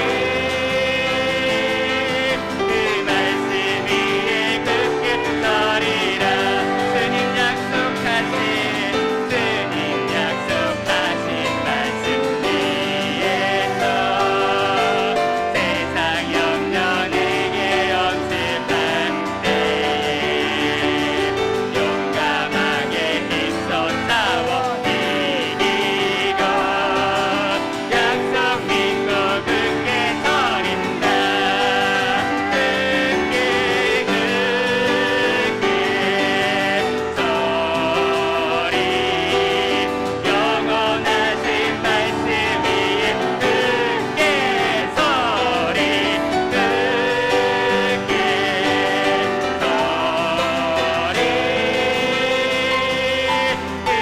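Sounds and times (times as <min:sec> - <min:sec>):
instrumental accompaniment: 0:00.0 - 0:54.0
vocalists singing hymn: 0:00.0 - 0:54.0.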